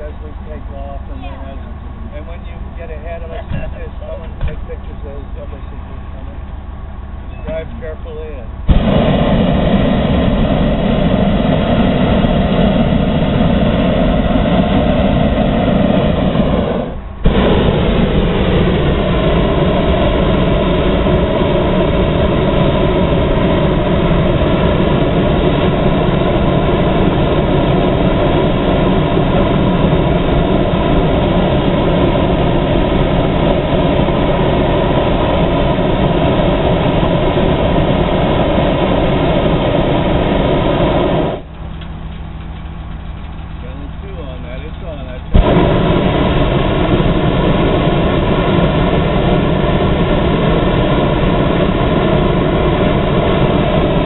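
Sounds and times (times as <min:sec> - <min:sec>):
propane burner blasting: 0:00.0 - 0:54.0.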